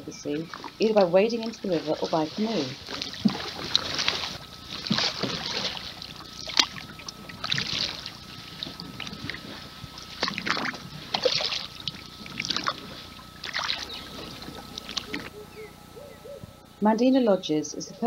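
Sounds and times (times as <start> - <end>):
paddle strokes splashing: 0.4 - 15.3.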